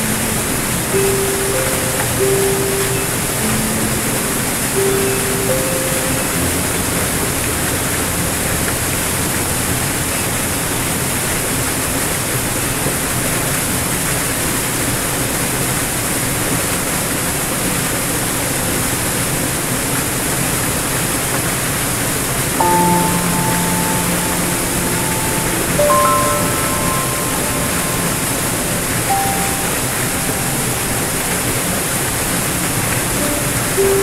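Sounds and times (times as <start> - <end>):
waterfall pouring over rocks: 0.0 - 34.0.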